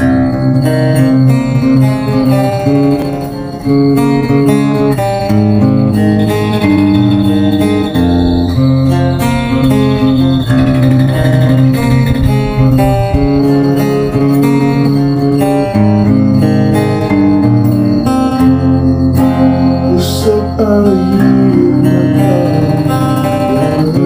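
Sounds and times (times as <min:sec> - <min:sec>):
fingerpicked acoustic guitar chords: 0:00.0 - 0:24.0.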